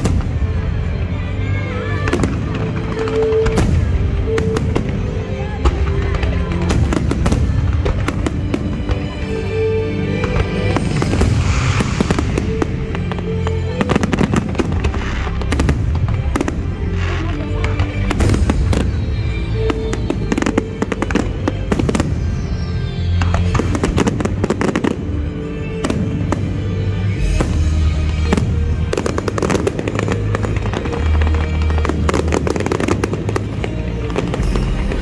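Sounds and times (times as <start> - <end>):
fireworks bangs and crackling: 0.0 - 35.0
music with held notes: 0.0 - 35.0.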